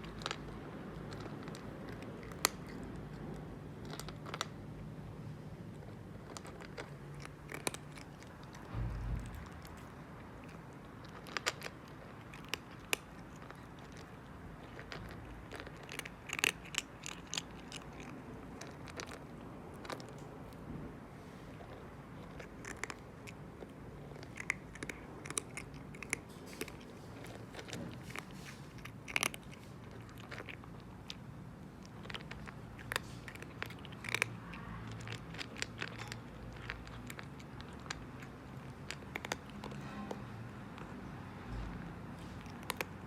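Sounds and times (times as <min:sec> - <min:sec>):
cat chewing food: 0:00.0 - 0:43.0.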